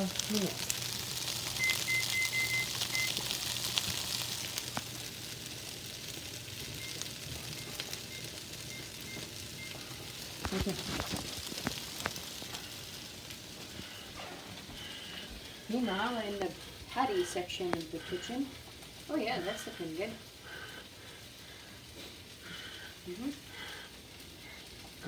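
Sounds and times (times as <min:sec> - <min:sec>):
onions sizzling in a pan: 0:00.0 - 0:25.0.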